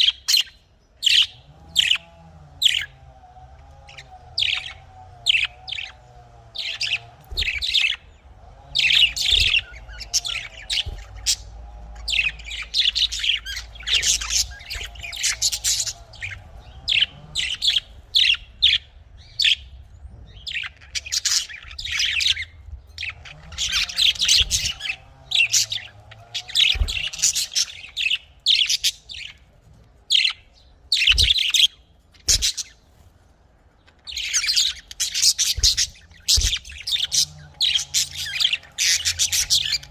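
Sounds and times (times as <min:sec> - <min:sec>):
budgerigars chattering: 0:00.0 - 0:03.0, 0:03.6 - 0:29.5, 0:30.1 - 0:32.8, 0:33.8 - 0:39.9.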